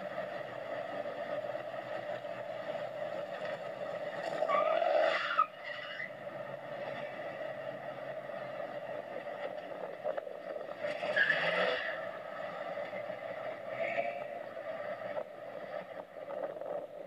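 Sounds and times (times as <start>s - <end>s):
car engines running: 0.0s - 17.0s.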